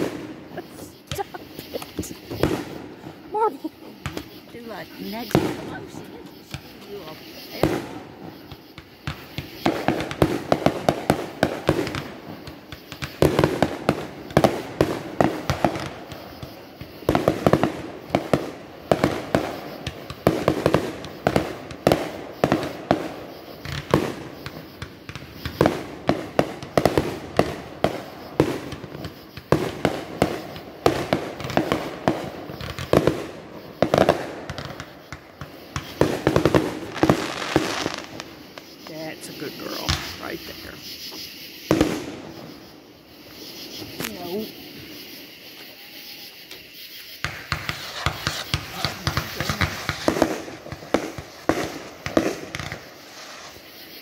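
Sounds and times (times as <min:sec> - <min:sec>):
fireworks crackling bursts: 0:00.0 - 0:54.0.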